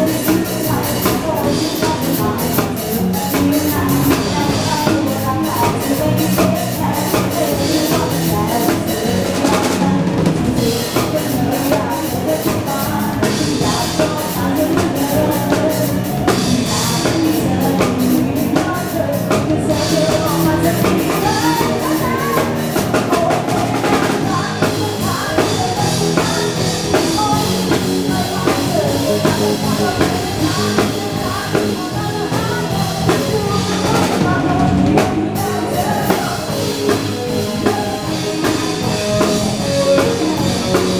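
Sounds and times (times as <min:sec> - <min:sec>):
band playing upbeat dance music: 0:00.0 - 0:40.9.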